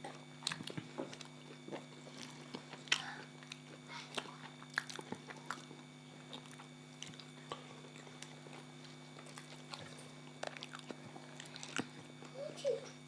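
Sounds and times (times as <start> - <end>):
eating clicks and smacks: 0.0 - 12.3
people chewing food: 0.0 - 13.0.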